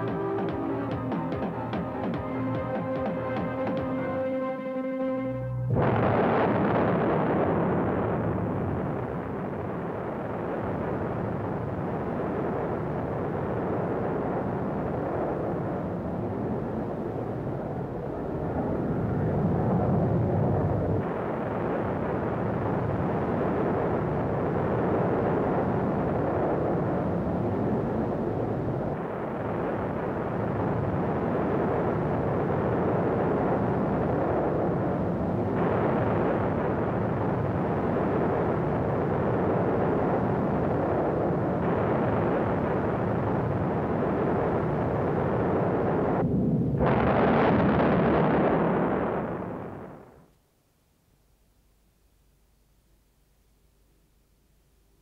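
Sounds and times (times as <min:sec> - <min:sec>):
steady rumbling noise: 0:00.0 - 0:04.5, 0:05.2 - 0:50.4.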